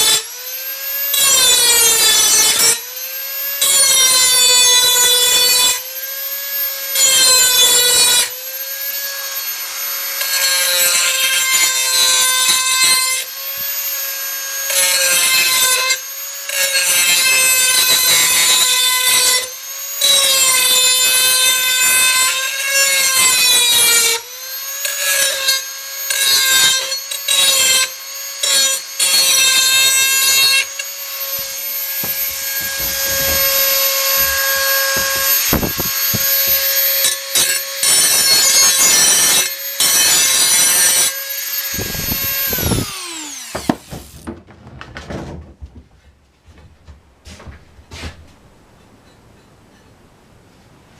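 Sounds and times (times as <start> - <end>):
grinding metal blade: 0.0 - 44.2
rotary tool whining: 0.0 - 44.3.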